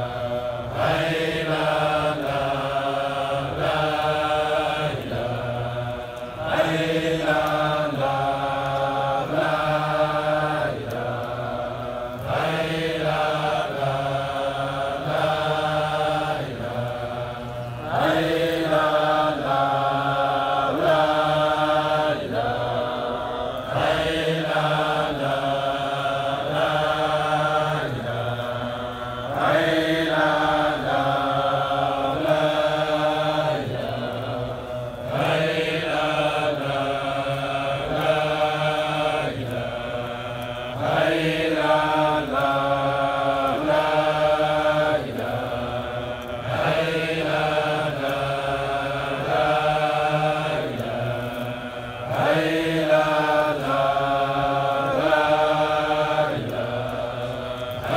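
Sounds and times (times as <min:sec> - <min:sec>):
men chanting in unison: 0:00.0 - 0:57.9.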